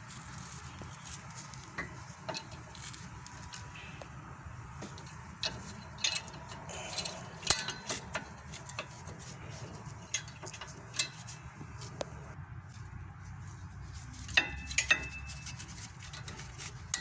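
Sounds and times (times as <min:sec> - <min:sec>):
brake pad clicking against metal: 0:00.2 - 0:12.3, 0:14.2 - 0:17.0.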